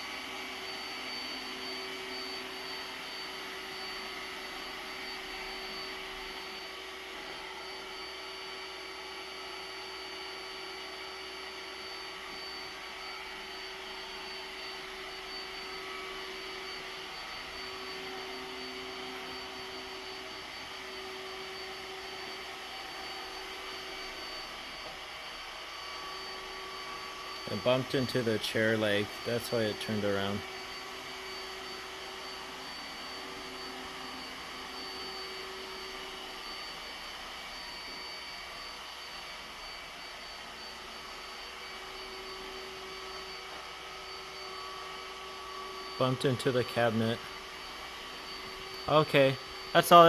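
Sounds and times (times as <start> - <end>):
robot vacuum whirring: 0.0 - 50.0.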